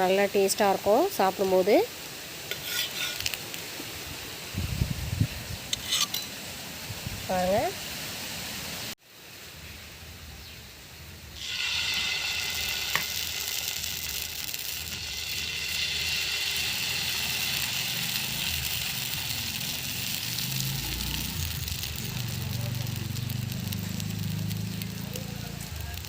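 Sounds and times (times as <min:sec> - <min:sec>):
flatbread sizzling in oil: 0:00.0 - 0:09.8, 0:11.1 - 0:26.0.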